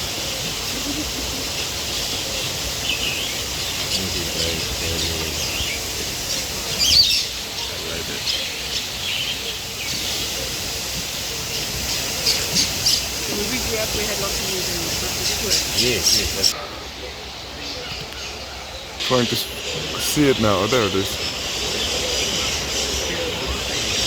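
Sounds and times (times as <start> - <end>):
birds chirping and calling: 0.0 - 24.0
steady background hiss: 0.0 - 24.0.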